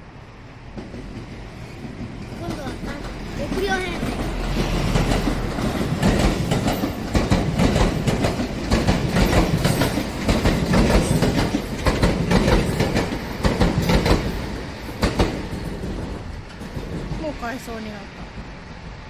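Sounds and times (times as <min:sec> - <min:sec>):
train rumble: 0:00.0 - 0:19.0
train wheels clattering: 0:00.7 - 0:18.7.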